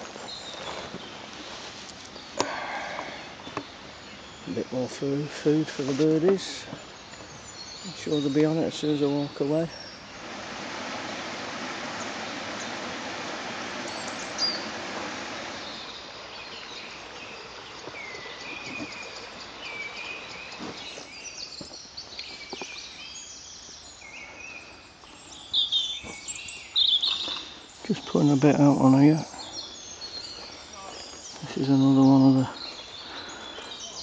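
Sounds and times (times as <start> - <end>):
small birds chirping: 0.0 - 10.4, 11.2 - 34.0
brook running over stones: 0.0 - 34.0.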